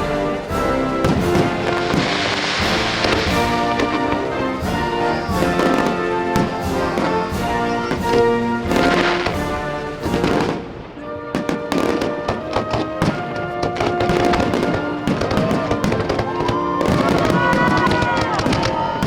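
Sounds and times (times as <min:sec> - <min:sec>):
fireworks bursting and crackling: 0:00.0 - 0:19.0
music: 0:00.0 - 0:19.0.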